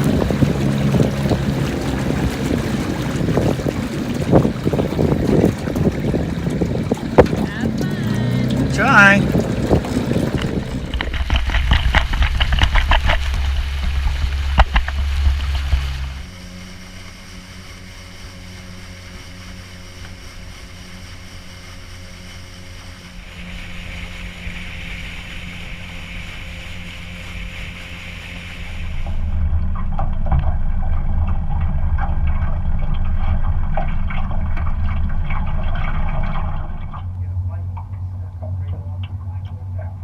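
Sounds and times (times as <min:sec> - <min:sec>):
boat motor running: 0:00.0 - 0:40.0
water noise: 0:00.0 - 0:40.0.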